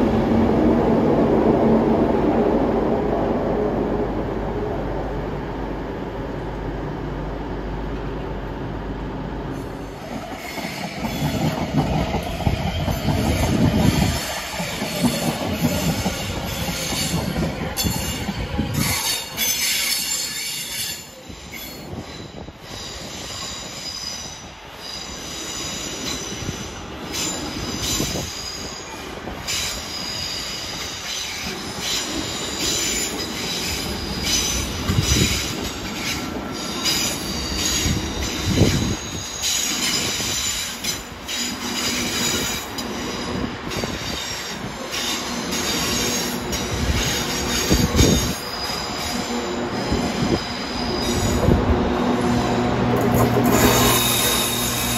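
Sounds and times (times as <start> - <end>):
low train rumble: 0.0 - 54.9
train wheels squealing: 9.5 - 51.6, 52.2 - 54.9.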